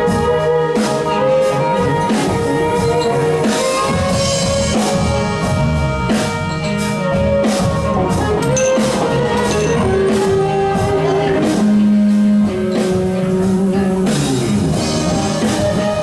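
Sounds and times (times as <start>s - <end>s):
bass: 0.0s - 16.0s
drum kit beat: 0.0s - 16.0s
live blues band playing: 0.0s - 16.0s
long held horn or keyboard notes: 0.0s - 16.0s.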